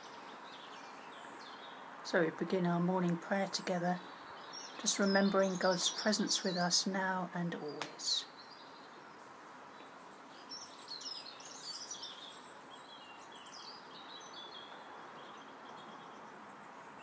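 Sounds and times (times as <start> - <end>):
birds chirping: 0.0 - 17.0
faint steady hiss: 0.0 - 17.0.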